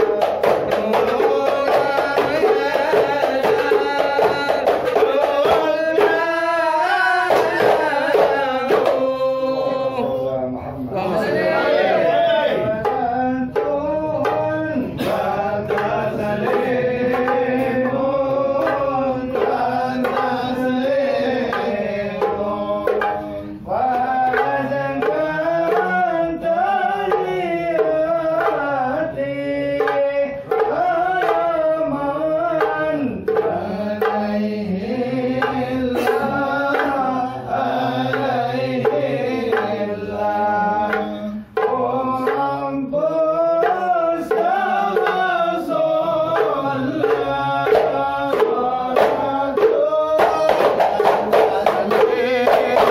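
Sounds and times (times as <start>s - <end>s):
frame drums: 0.0s - 10.2s, 10.9s - 52.9s
group chanting: 0.0s - 52.9s.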